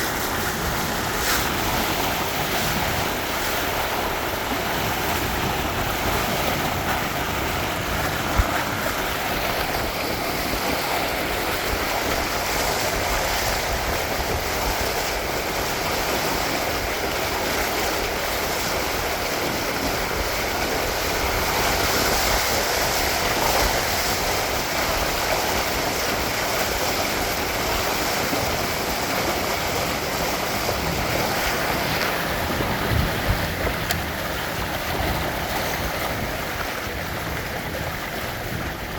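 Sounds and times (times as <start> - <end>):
water rushing along hulls: 0.0 - 38.9
wind buffeting microphone: 0.0 - 38.9.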